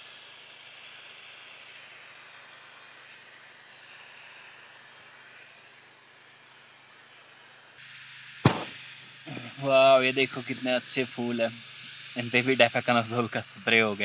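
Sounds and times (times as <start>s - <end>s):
faint hiss-like noise: 0.0s - 14.0s.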